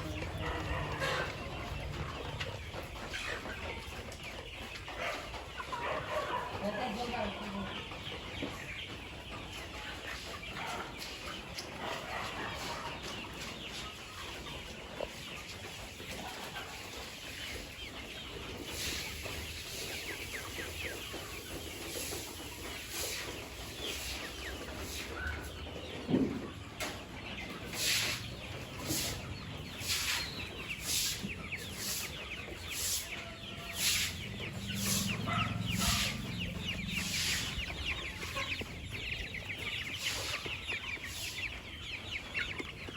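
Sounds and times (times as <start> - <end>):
chickens clucking and peeping: 0.0 - 42.9.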